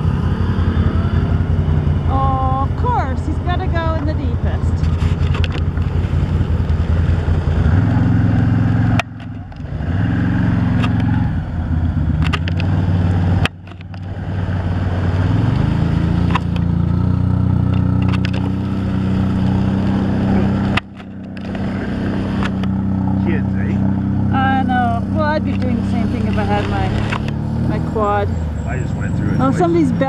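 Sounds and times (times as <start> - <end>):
off-road vehicle engines revving: 0.0 - 30.0
vehicles splashing through water: 0.0 - 30.0.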